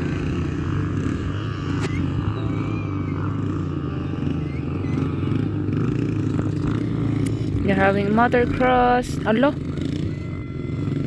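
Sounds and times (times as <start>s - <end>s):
dirt bike engines running: 0.0s - 11.0s.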